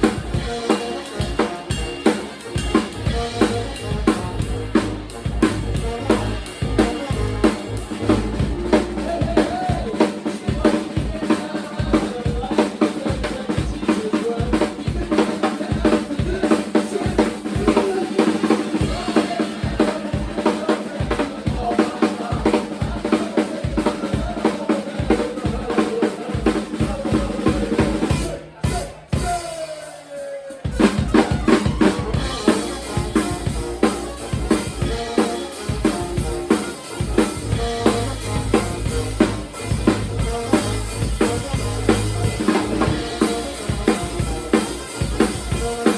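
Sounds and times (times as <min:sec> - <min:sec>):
drum kit hits: 0:00.0 - 0:29.7, 0:30.6 - 0:45.9
live band playing: 0:00.0 - 0:45.9.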